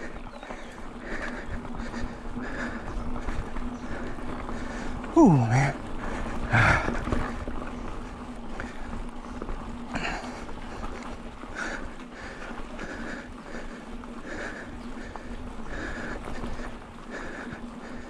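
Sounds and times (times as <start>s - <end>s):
bike tyres on dirt track: 0.0s - 18.0s
heavy puffing breaths: 0.0s - 18.0s.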